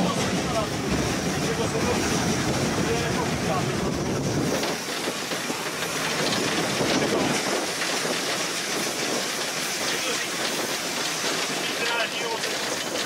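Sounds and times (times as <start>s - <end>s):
locomotive rattling over track: 0.0s - 13.0s
steam hissing: 0.0s - 13.0s.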